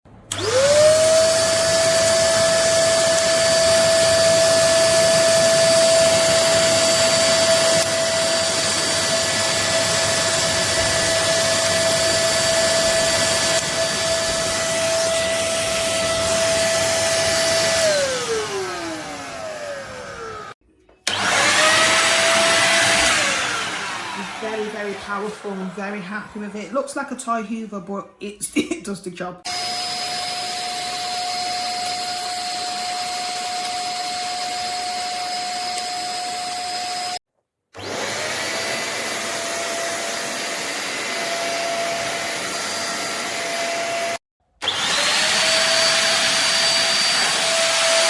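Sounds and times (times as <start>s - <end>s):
stick vacuum motor whine: 0.3s - 26.6s, 29.5s - 37.2s, 37.8s - 48.0s.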